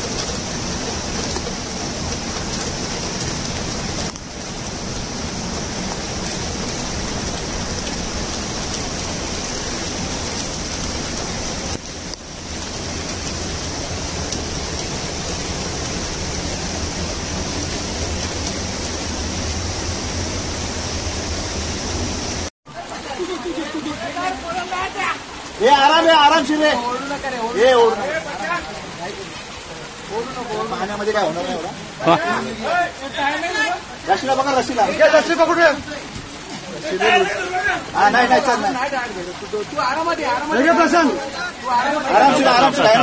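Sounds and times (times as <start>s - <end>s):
floodwater rushing: 0.0s - 43.0s
heavy rain: 0.0s - 43.0s.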